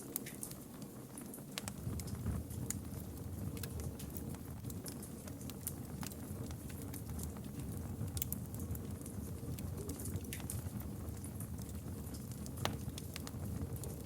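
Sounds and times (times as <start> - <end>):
campfire crackling: 0.0 - 14.0
low rumble of flame: 0.0 - 14.0.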